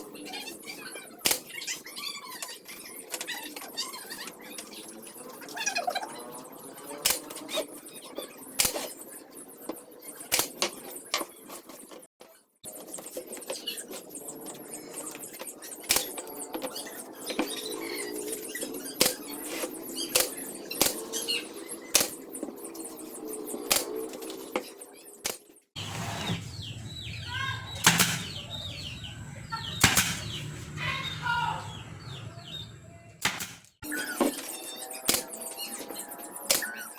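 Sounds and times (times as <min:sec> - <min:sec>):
squeaks and scraping: 0:00.2 - 0:06.4, 0:07.3 - 0:25.2, 0:25.8 - 0:33.0, 0:33.6 - 0:36.9.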